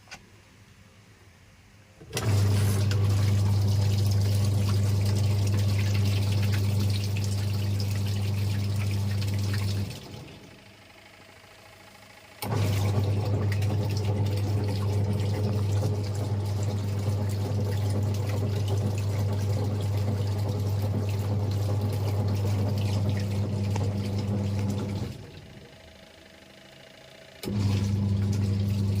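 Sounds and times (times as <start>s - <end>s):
washing machine motor humming: 2.0s - 29.0s.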